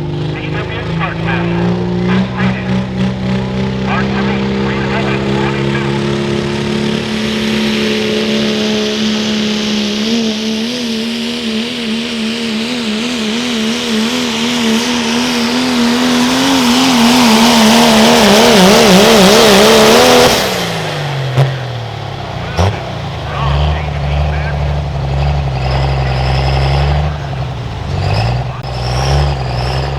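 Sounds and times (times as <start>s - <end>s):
diesel truck engine at high revs: 0.0s - 29.9s.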